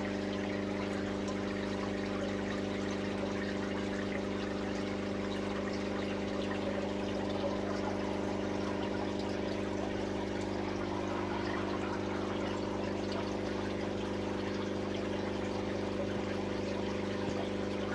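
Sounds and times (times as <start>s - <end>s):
aquarium pump humming: 0.0s - 17.9s
moving water: 0.0s - 17.9s.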